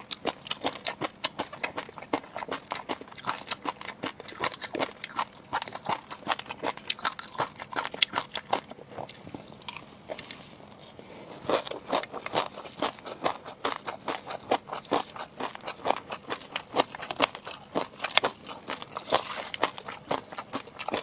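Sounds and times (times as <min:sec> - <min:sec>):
wet chewing and mouth clicks: 0:00.0 - 0:21.0.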